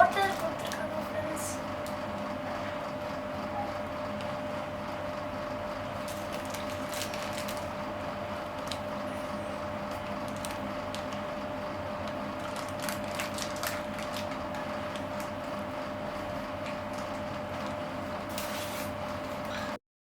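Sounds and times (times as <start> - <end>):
steady hum: 0.0 - 19.8.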